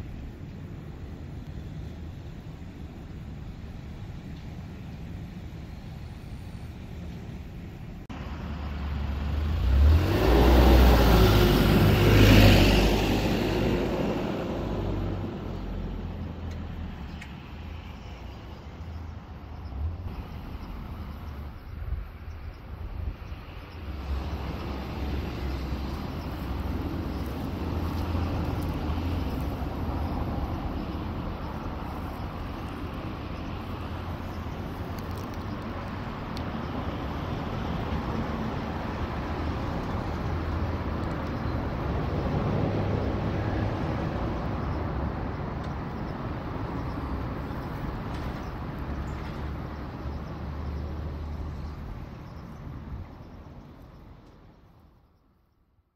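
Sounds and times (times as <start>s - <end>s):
vehicle engine rumbling: 0.0s - 55.1s.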